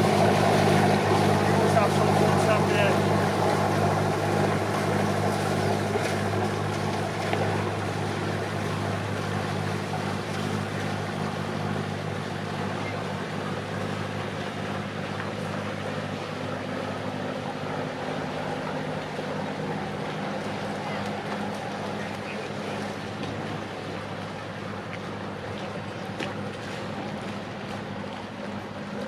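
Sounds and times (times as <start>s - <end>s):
motor boat engine humming: 0.0s - 29.0s.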